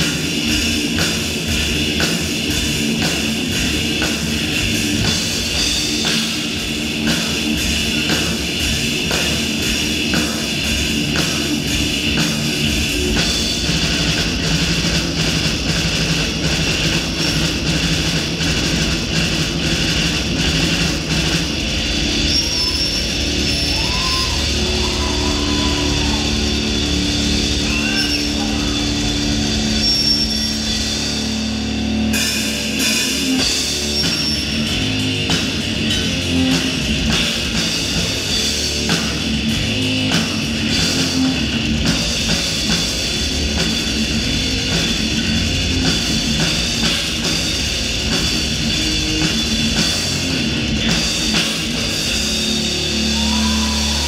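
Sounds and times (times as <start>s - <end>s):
distorted guitars: 0.0s - 54.0s
heavy metal band playing live: 0.0s - 54.0s
pounding drum kit: 0.0s - 54.0s.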